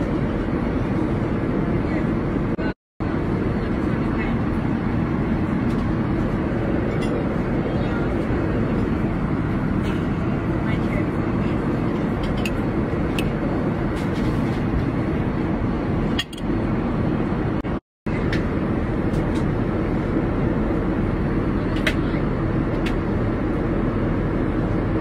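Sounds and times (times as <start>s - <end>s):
airliner cabin noise: 0.0s - 25.0s.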